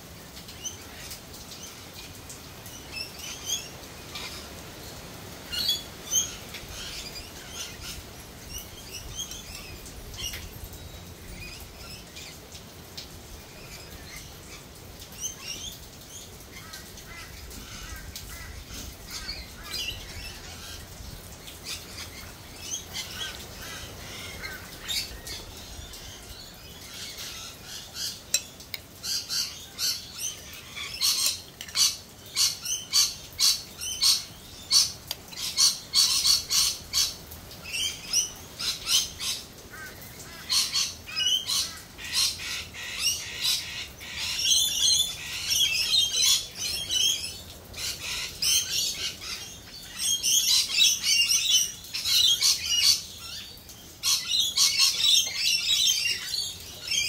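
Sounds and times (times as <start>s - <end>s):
faint steady hiss: 0.0s - 57.0s
birds chirping: 0.5s - 57.0s.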